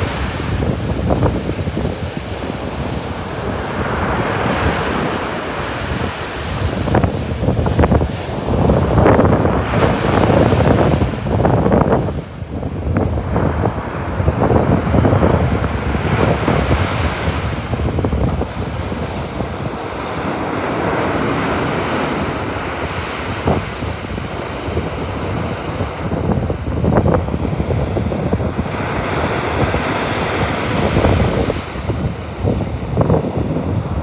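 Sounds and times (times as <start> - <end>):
sea waves breaking on shore: 0.0 - 34.0
wind buffeting microphone: 0.0 - 34.0.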